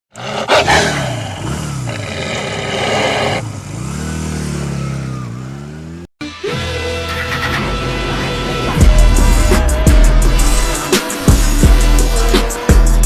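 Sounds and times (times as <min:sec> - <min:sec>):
motorcycle engine revving: 0:00.1 - 0:06.1, 0:06.8 - 0:13.0.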